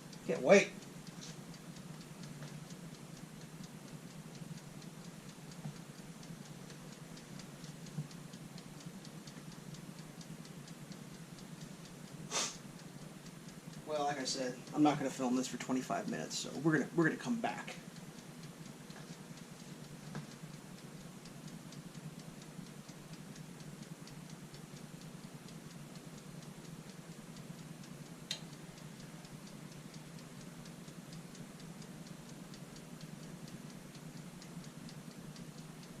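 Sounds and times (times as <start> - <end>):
low steady hum: 0.0 - 36.0
mechanical timer ticking: 0.0 - 36.0.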